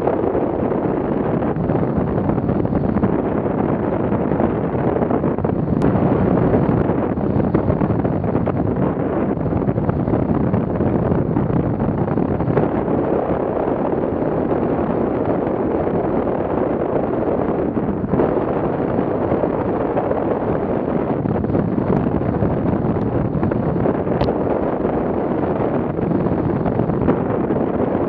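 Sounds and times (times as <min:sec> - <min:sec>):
gusting wind noise: 0:00.0 - 0:28.0.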